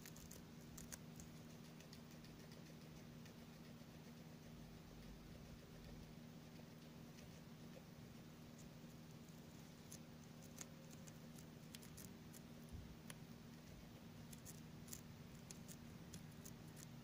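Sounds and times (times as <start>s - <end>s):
guinea pig chewing: 0.0s - 17.0s
low steady hum: 0.0s - 17.0s.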